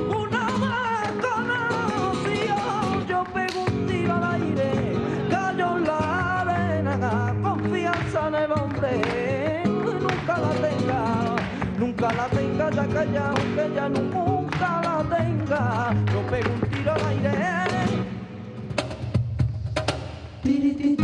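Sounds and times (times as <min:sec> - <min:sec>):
person singing flamenco: 0:00.0 - 0:19.1, 0:19.9 - 0:21.0
guitar: 0:00.0 - 0:21.0.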